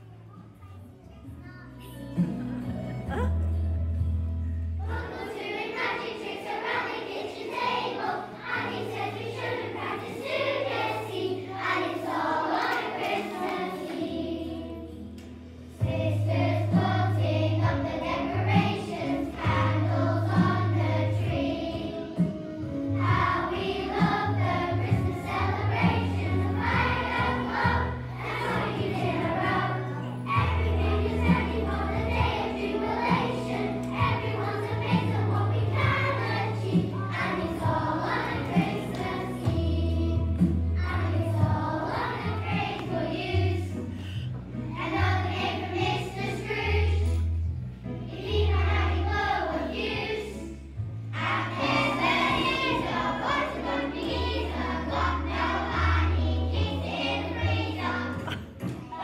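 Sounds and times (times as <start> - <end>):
children's choir singing: 4.8 - 44.0, 44.6 - 59.0.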